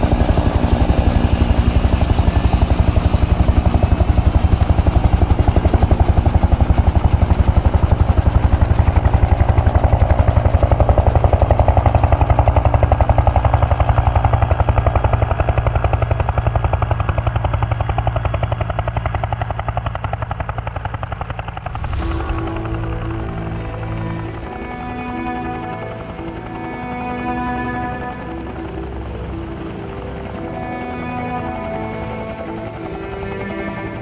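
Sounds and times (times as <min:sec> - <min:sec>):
helicopter rotor chopping: 0:00.0 - 0:34.0.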